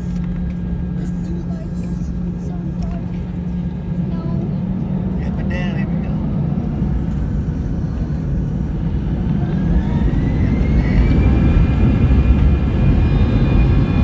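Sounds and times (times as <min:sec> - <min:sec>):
jet engine whine rising: 0:00.0 - 0:14.0
jet engines low rumble: 0:00.0 - 0:14.0.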